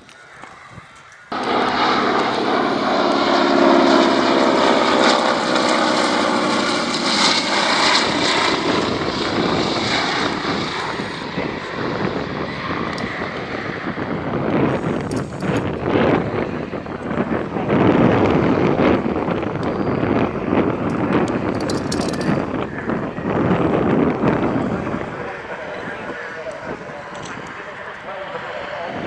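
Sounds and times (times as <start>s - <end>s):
aircraft engine noise: 0.0s - 29.0s.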